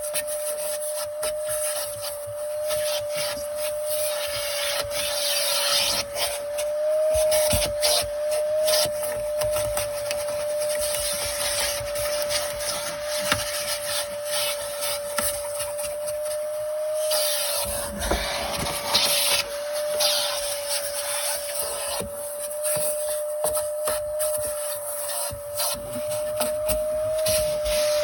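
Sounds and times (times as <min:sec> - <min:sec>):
nozzle scraping fabric: 0:00.0 - 0:28.0
vacuum cleaner whine: 0:00.0 - 0:28.0.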